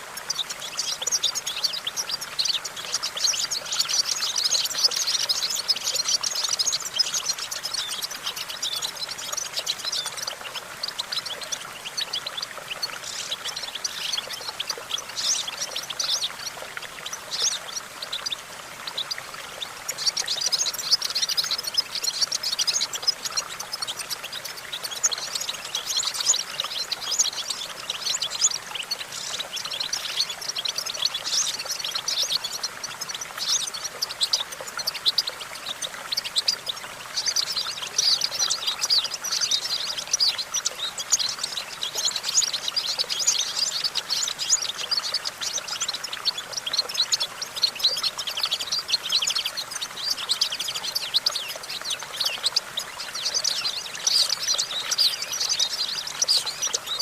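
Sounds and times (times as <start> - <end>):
goldfinch twittering song: 0.0 - 57.0.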